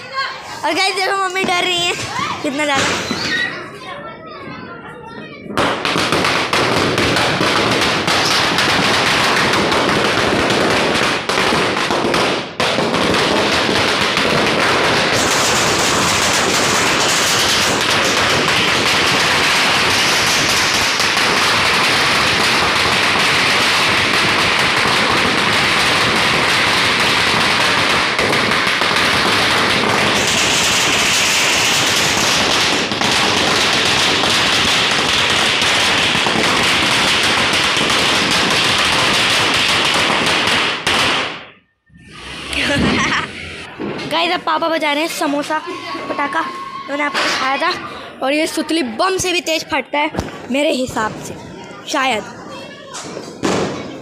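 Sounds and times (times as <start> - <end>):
firecracker string rattling bangs: 0.6 - 3.6, 5.5 - 47.8, 49.2 - 54.0.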